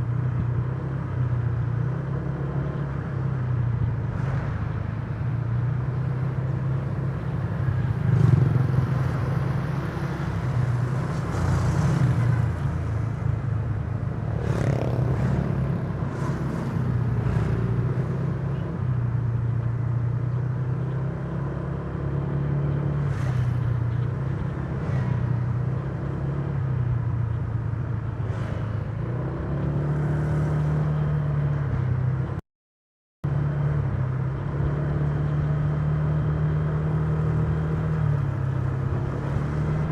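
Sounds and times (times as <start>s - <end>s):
road and wind noise: 0.0s - 32.4s, 33.2s - 39.9s.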